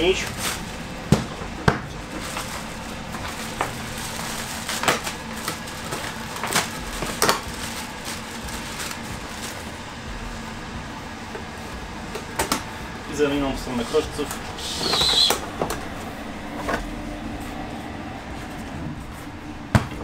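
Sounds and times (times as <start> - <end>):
ventilation unit humming: 0.0 - 20.0.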